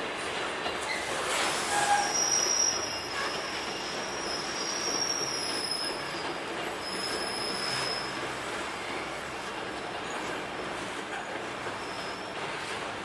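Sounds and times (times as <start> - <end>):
freight train rumble: 0.0 - 13.0
train wheels squealing: 0.6 - 10.5, 11.1 - 13.0.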